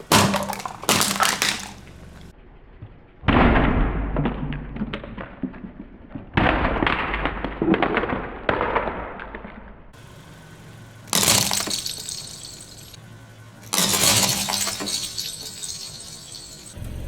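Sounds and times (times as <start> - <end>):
objects crushed under car tyre: 0.0 - 2.3, 3.3 - 9.6, 11.1 - 13.0, 13.6 - 16.8.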